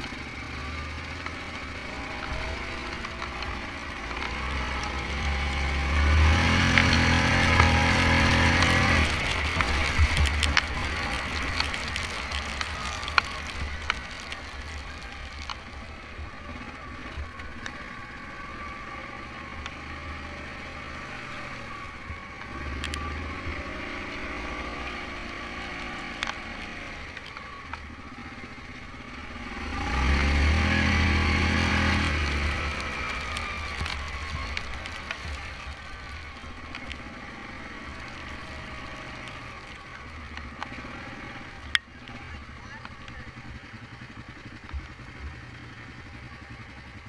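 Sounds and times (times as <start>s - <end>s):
quad bike engine running: 0.0s - 47.0s.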